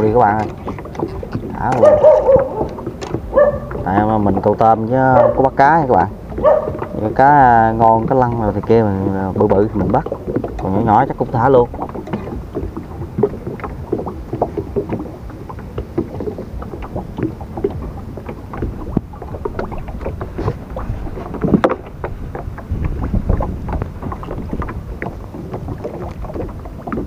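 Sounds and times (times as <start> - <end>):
water splashes: 0.0 - 27.0
wind rumbling on microphone: 0.0 - 27.0.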